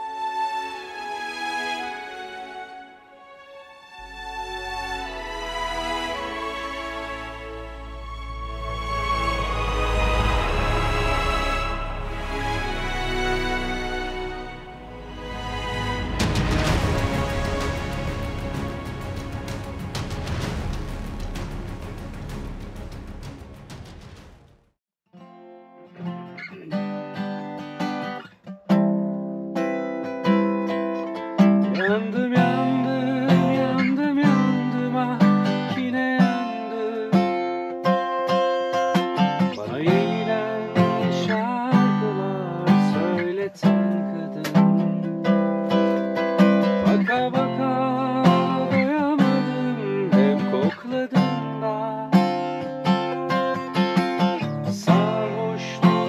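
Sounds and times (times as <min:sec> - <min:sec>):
acoustic guitar playing: 0:00.0 - 0:23.8, 0:25.2 - 0:56.0.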